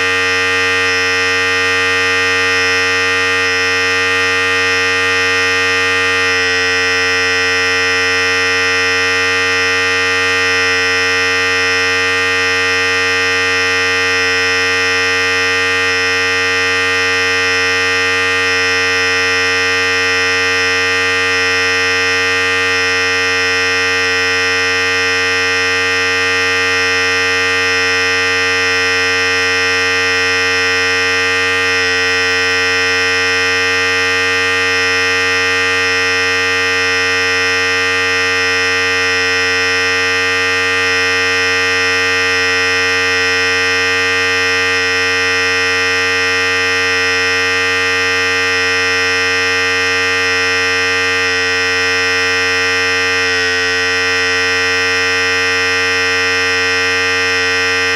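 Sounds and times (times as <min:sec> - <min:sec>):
electric hair clipper buzzing: 0:00.0 - 0:57.9.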